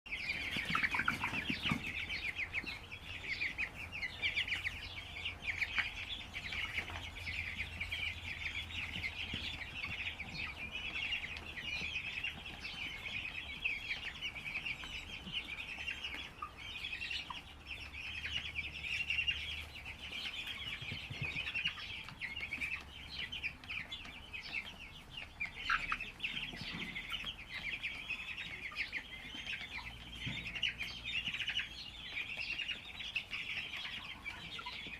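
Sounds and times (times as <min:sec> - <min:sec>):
chickens peeping and chirping: 0:00.1 - 0:34.9.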